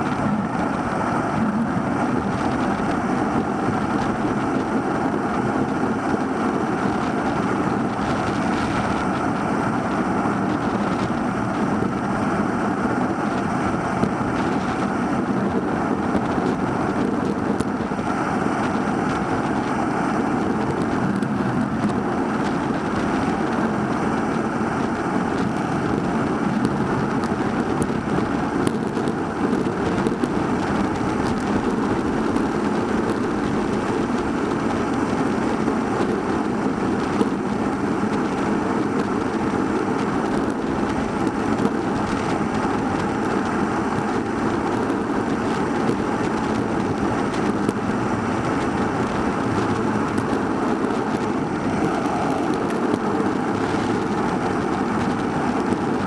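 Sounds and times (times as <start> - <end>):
road noise: 0.0 - 56.0
rushing wind: 0.0 - 56.0.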